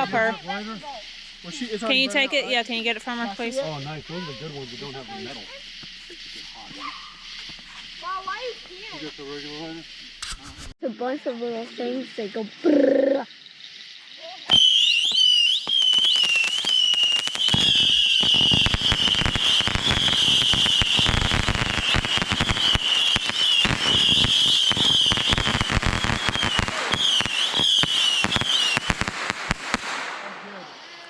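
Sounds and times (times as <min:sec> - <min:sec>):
fireworks crackling pops: 0:00.0 - 0:10.8, 0:13.6 - 0:31.0
fireworks whistling: 0:00.0 - 0:10.8, 0:12.7 - 0:31.0.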